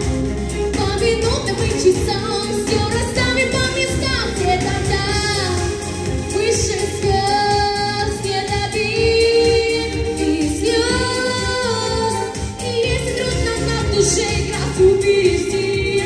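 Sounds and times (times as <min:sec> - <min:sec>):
instrumental accompaniment: 0:00.0 - 0:16.0
woman singing into microphone: 0:00.6 - 0:16.0.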